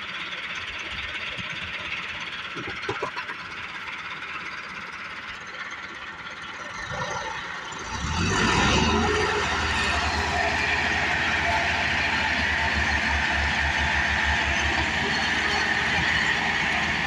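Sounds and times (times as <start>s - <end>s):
tractor engine pulsing: 0.0s - 17.0s.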